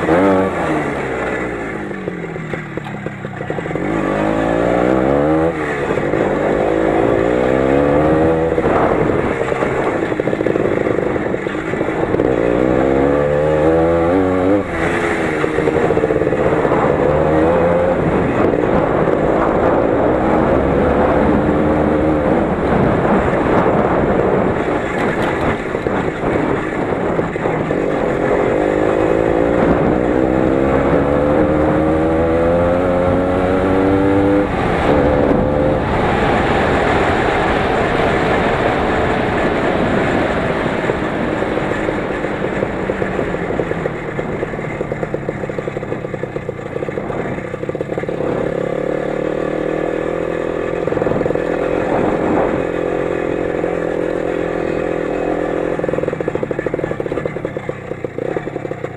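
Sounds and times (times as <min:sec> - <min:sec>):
motorcycle engine under load: 0:00.0 - 0:58.9.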